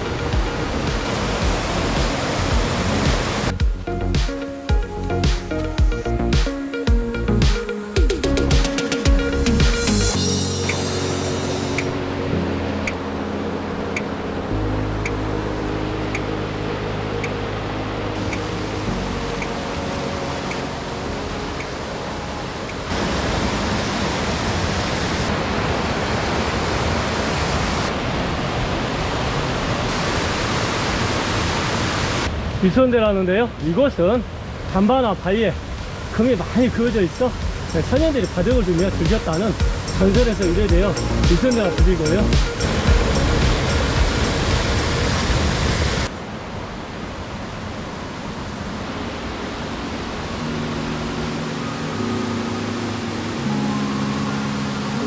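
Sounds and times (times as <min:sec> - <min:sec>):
stream rushing over rocks: 0:00.0 - 0:03.6, 0:10.7 - 0:55.0.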